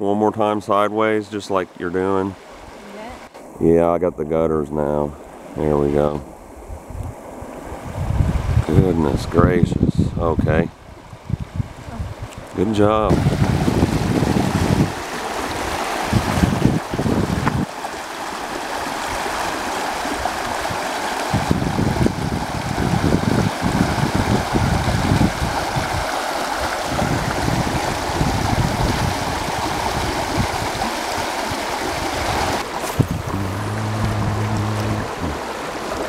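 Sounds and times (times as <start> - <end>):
creek water rushing and splashing: 0.4 - 3.7, 4.4 - 9.4, 10.7 - 36.0
wind gusts on microphone: 5.2 - 17.8, 18.8 - 36.0.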